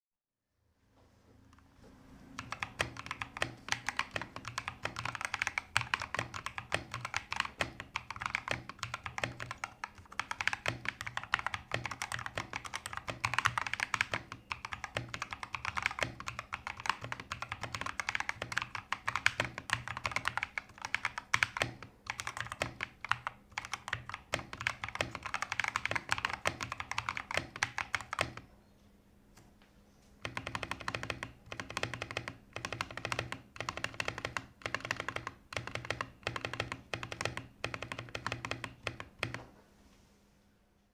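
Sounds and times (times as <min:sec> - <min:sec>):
mechanical keyboard typing: 0:02.4 - 0:28.5, 0:30.2 - 0:39.4.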